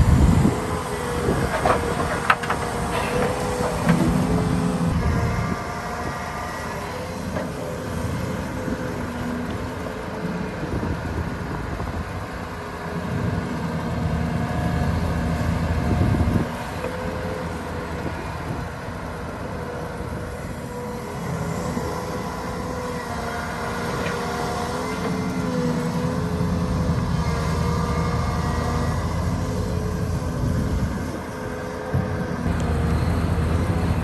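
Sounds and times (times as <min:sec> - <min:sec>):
excavator diesel engine working: 0:00.0 - 0:34.0
excavator digging soil: 0:00.0 - 0:34.0.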